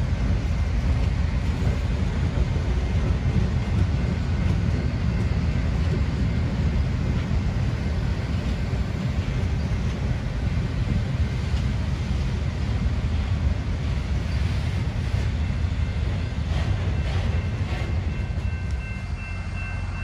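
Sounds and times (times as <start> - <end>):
train rumbling by: 0.0 - 20.0.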